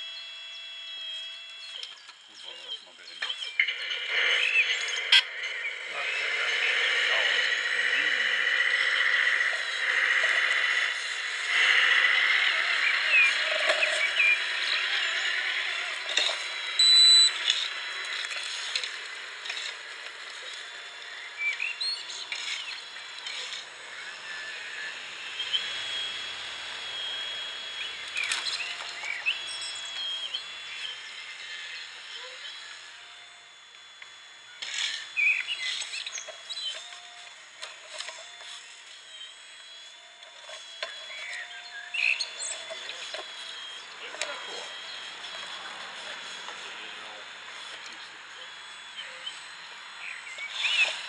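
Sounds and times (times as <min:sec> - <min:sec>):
birds chirping: 0:00.0 - 0:51.0
electric motor whines: 0:00.0 - 0:51.0
outdoor background noise: 0:00.0 - 0:51.0.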